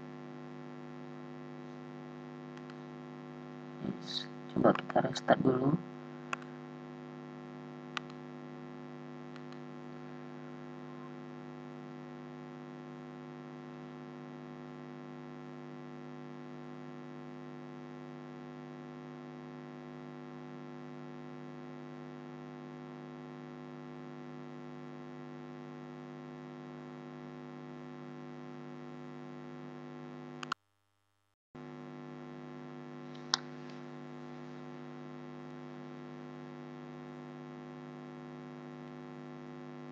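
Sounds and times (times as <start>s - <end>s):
electrical hum: 0.0s - 24.8s, 31.6s - 39.9s.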